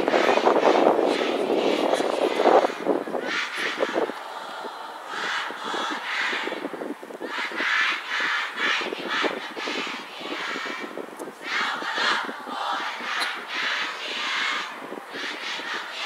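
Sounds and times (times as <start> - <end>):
crowd shouting and chanting: 0.0 - 16.0.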